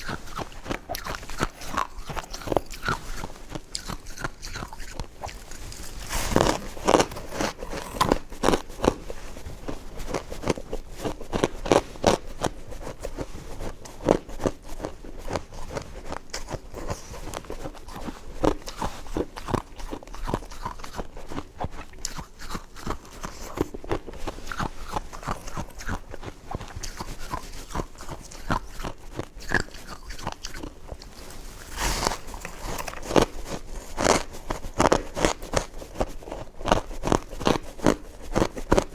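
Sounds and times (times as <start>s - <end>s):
crunching ice chewing: 0.0s - 9.4s, 13.8s - 38.9s.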